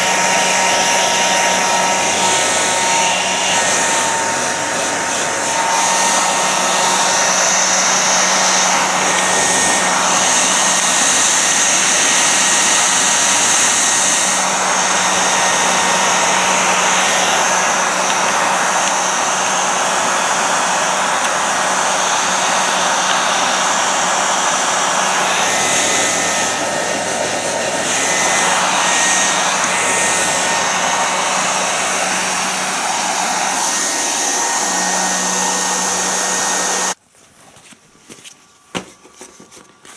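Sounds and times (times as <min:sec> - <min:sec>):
hair dryer whirring: 0:00.0 - 0:37.0.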